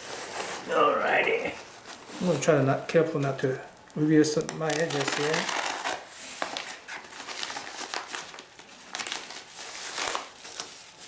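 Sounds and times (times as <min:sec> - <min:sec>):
wrapping crinkling and rustling: 0:00.0 - 0:11.0.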